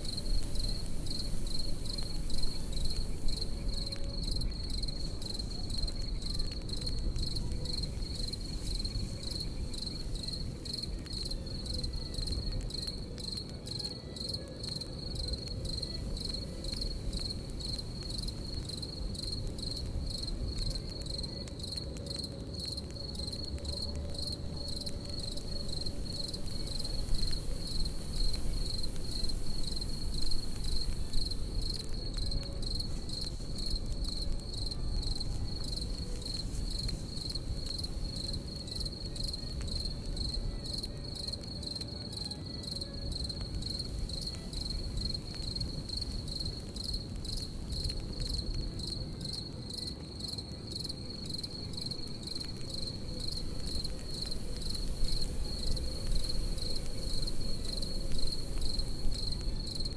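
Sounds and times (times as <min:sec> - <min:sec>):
campfire crackling: 0:00.0 - 0:59.9
crickets chirping: 0:00.0 - 0:59.9.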